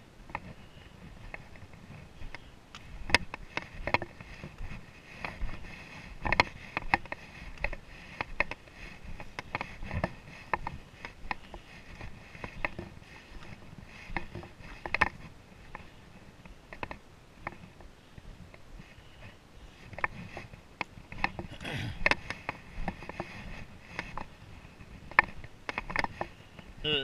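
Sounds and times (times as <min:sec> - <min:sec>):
footsteps on rocky dirt trail: 0:00.2 - 0:26.8.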